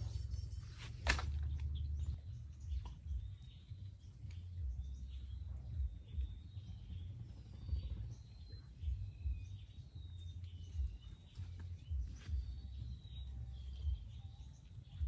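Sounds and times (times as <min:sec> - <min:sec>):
small birds chirping: 0:00.0 - 0:15.0
wind rumble on microphone: 0:00.0 - 0:15.0.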